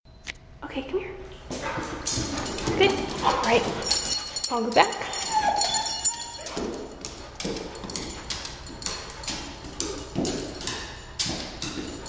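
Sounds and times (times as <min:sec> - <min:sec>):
dog paws on stairs: 0:01.3 - 0:12.0.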